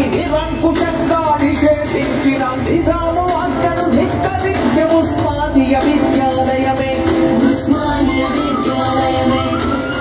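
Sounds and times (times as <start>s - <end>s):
person singing a melody: 0.0s - 10.0s.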